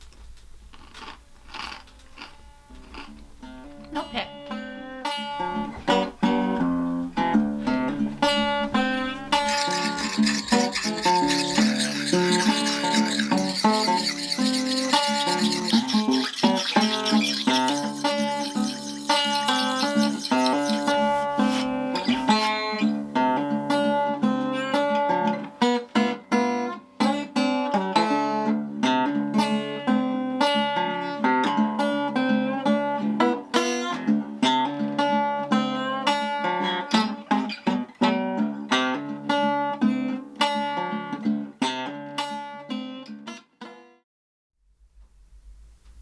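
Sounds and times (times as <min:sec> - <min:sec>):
acoustic guitar plucking and strumming: 0:01.9 - 0:43.8.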